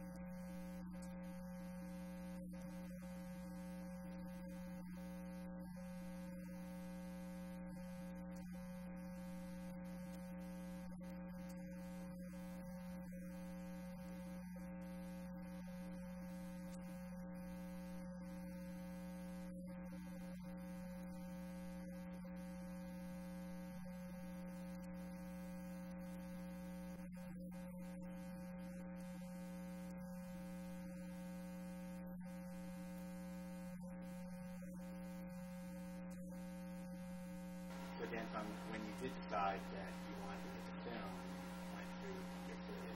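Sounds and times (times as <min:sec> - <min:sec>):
electrical mains hum: 0:00.0 - 0:42.9.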